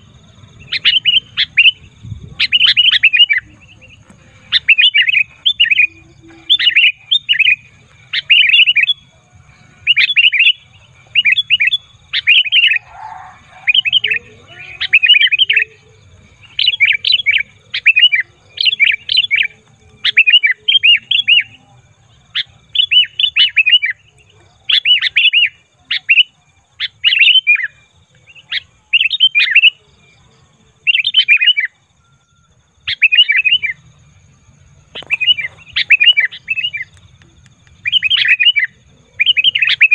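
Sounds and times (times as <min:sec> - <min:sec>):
bulbul chattering calls: 0:00.0 - 0:29.8, 0:30.9 - 0:31.8, 0:32.8 - 0:33.8, 0:34.8 - 0:37.0, 0:37.6 - 0:39.9.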